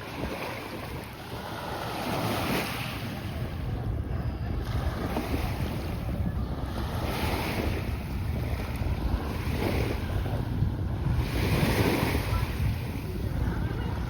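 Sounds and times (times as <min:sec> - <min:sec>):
sea waves washing onto beach: 0:00.0 - 0:14.0
wind rumbling on microphone: 0:00.0 - 0:14.0.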